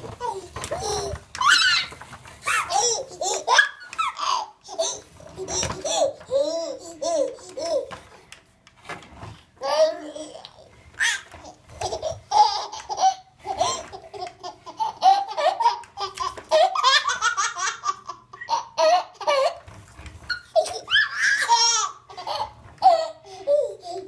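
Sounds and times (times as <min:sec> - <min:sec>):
baby laughing and giggling: 0:00.0 - 0:08.1, 0:09.6 - 0:19.7, 0:20.3 - 0:24.0.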